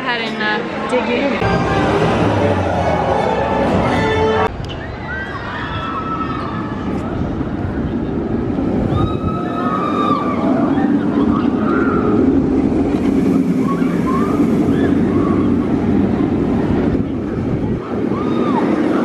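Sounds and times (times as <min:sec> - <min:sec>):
loud rushing outdoor noise: 0:00.0 - 0:19.0.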